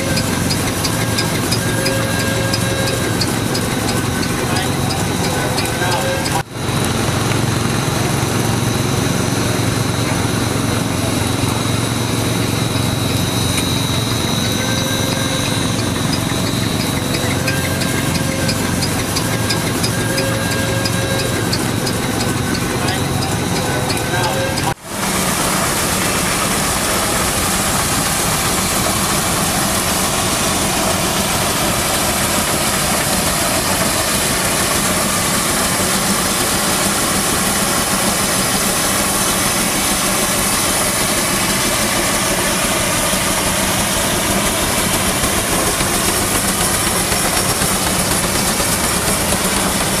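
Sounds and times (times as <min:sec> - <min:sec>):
steam traction engine running: 0:00.0 - 0:50.0.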